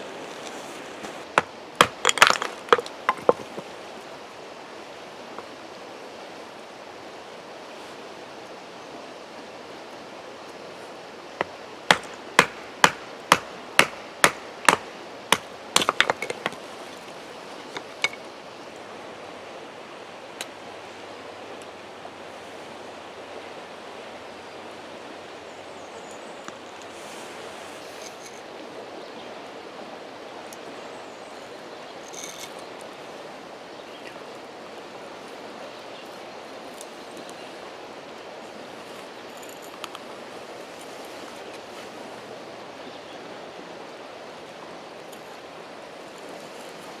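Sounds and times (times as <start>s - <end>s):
rushing creek: 0.0s - 47.0s.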